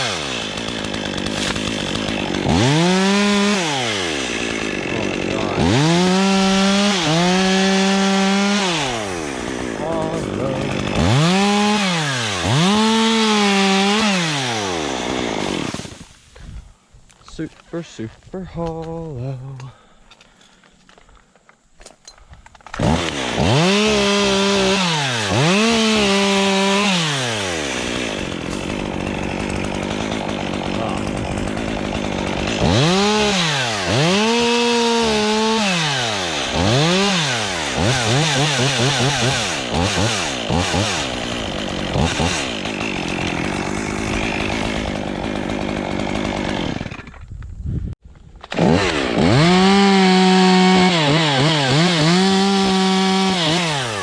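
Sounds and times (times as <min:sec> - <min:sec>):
chainsaw revving and cutting wood: 0:00.0 - 0:16.3, 0:22.7 - 0:47.3, 0:48.4 - 0:54.0.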